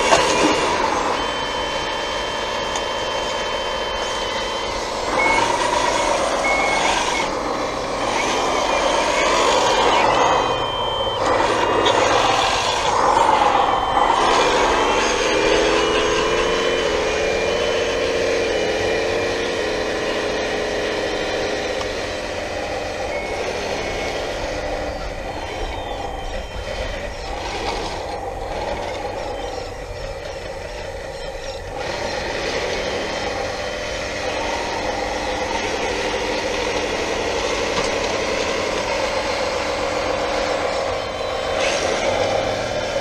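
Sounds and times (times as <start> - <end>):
toy wheel loader whine: 0.0 - 43.0.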